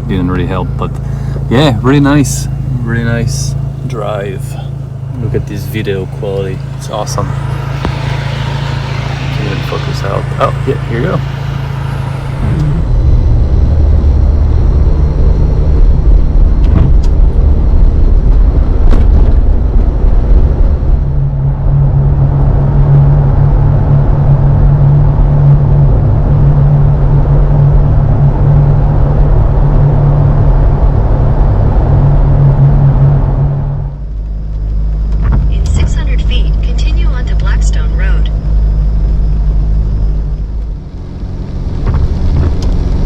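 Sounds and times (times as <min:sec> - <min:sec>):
vehicle engine and tyres rumbling: 0:00.0 - 0:43.0.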